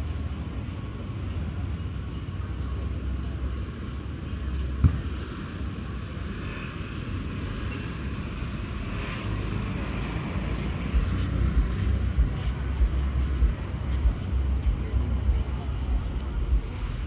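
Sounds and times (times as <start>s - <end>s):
traffic running by: 0.0s - 17.0s.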